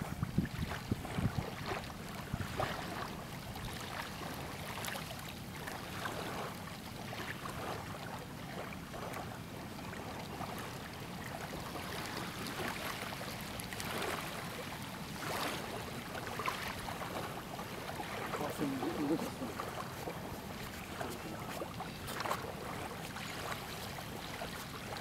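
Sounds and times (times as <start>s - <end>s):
small waves lapping and splashing: 0.0s - 25.0s.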